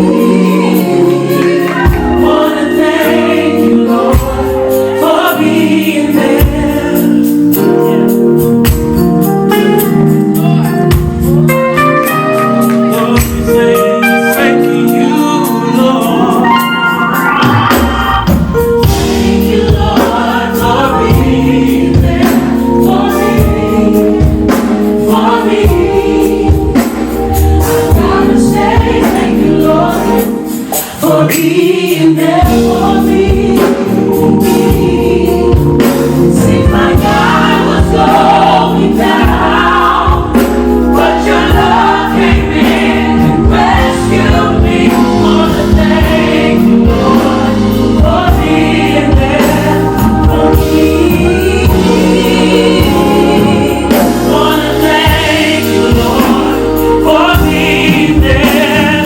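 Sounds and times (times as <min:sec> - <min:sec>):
drums beat: 0:00.0 - 0:10.1, 0:16.9 - 0:59.0
bass: 0:00.0 - 0:59.0
gospel choir singing: 0:00.0 - 0:59.0
keyboards: 0:00.0 - 0:59.0.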